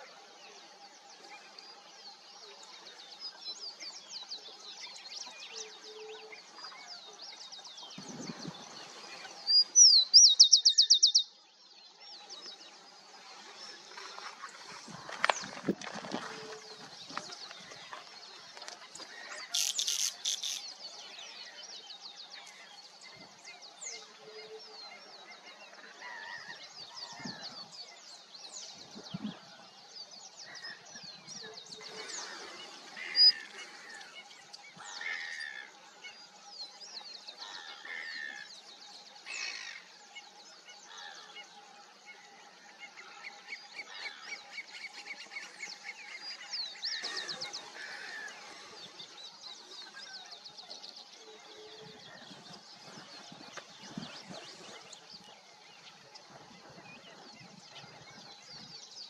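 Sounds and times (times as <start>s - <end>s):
waterbirds honking and chirping: 0.0s - 59.0s.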